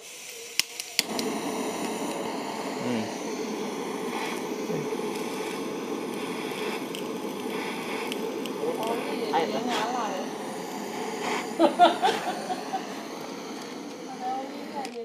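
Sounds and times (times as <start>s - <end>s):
gas torch hissing: 0.0s - 15.0s
gas torch igniting click: 0.0s - 15.0s.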